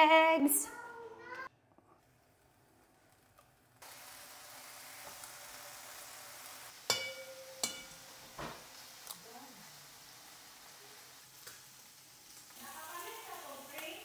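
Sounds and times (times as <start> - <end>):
bacon sizzling: 2.0 - 14.0.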